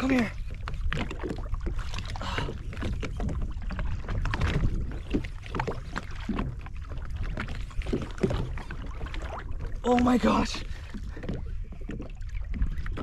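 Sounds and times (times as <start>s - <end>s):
water sloshing and splashing: 0.0s - 13.0s
wind rumble on microphone: 0.0s - 13.0s.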